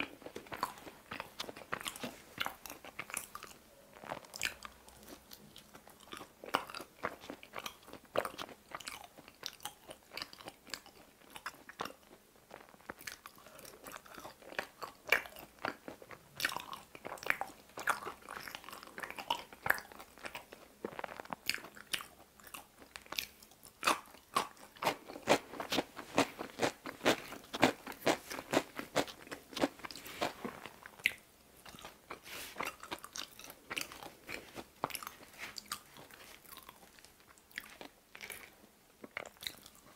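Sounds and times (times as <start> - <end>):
person chewing crunchy pizza: 0.0 - 39.9.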